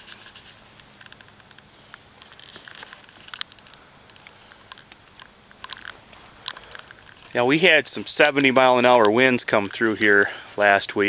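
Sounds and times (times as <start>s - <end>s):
light irregular clicks: 0.0s - 10.8s
dry corn leaves rustling: 0.0s - 11.0s.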